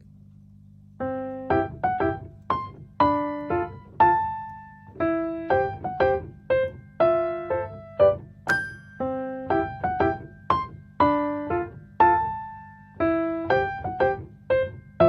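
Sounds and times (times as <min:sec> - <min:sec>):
light keyboard melody: 0:01.0 - 0:15.0.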